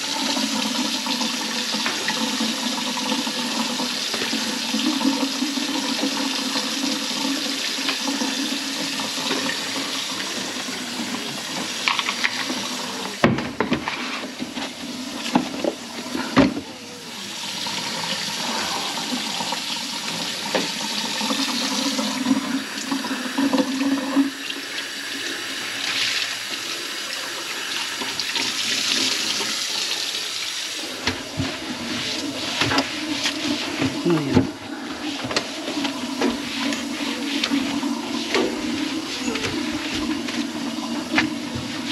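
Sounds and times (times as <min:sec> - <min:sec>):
tap water running into sink: 0:00.0 - 0:41.9.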